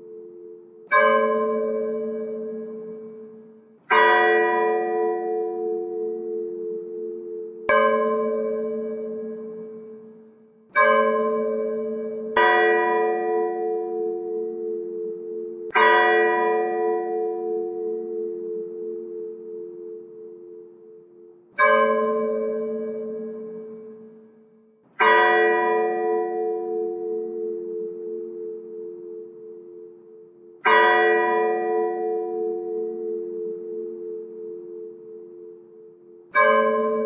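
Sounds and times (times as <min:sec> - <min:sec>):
church bells tolling: 0:00.0 - 0:37.0.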